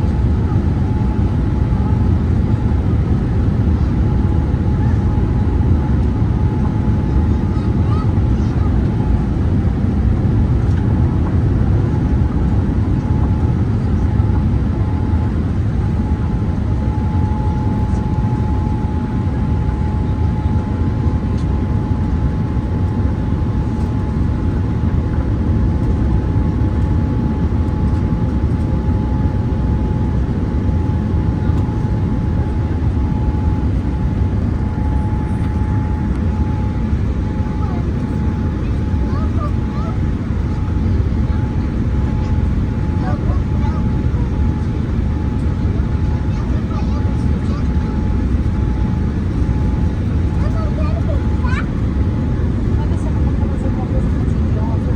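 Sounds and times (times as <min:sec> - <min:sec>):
aircraft cabin rumble: 0:00.0 - 0:54.9
steady whine: 0:00.0 - 0:54.9.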